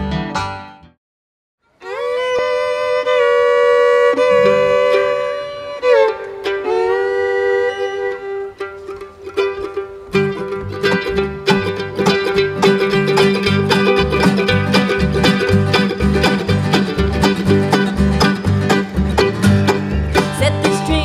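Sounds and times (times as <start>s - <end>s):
fiddle playing bowed notes: 1.7s - 21.0s.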